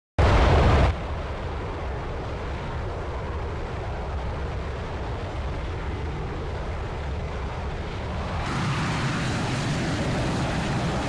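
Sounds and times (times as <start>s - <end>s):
jet aircraft rumble and hiss: 0.2s - 11.0s.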